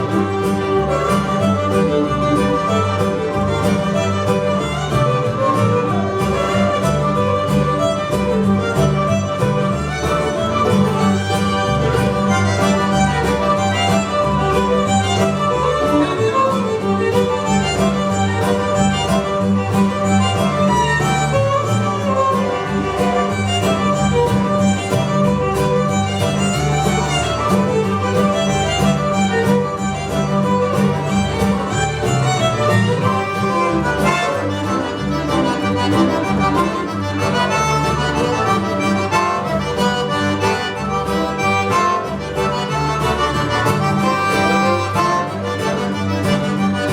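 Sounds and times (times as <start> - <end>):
accordion: 0.0 - 46.9
fiddle: 0.0 - 46.9
guitar: 0.0 - 46.9
pulsing bass line: 0.0 - 46.9.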